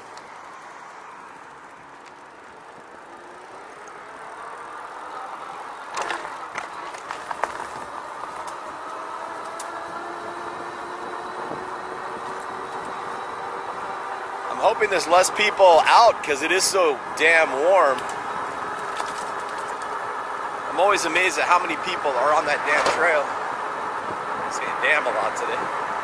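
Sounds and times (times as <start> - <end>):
wind and tyre noise: 0.0 - 26.0.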